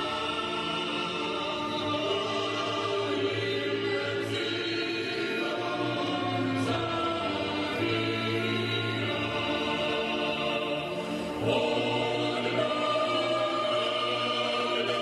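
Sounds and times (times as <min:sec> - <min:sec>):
group singing with accompaniment: 0:00.0 - 0:15.0.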